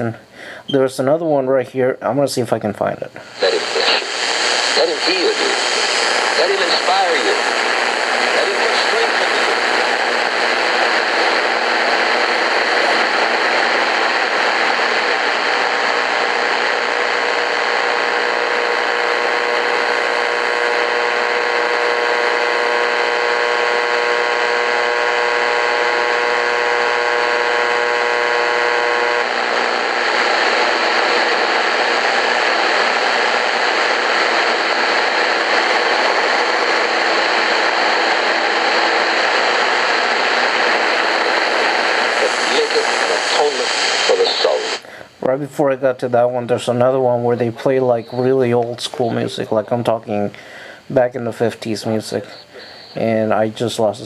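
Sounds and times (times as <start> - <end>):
radio whine: 2.8 - 54.0
radio static hiss: 3.2 - 54.0.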